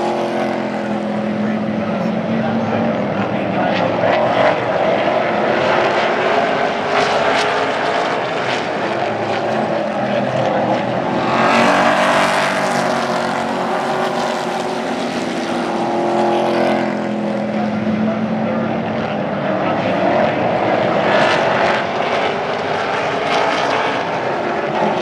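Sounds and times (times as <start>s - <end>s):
race truck engines droning: 0.0s - 25.0s.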